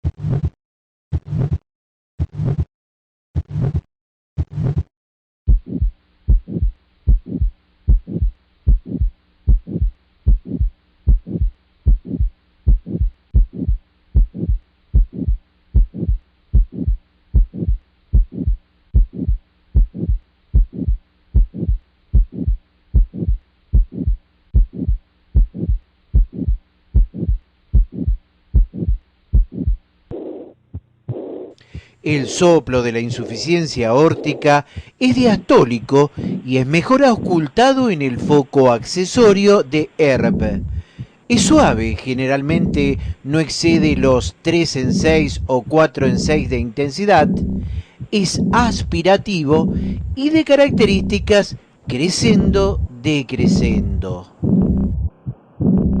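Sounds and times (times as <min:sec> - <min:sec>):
heartbeat through stethoscope: 0:05.5 - 0:39.4, 0:40.2 - 0:56.0
faint steady hum: 0:06.0 - 0:56.0.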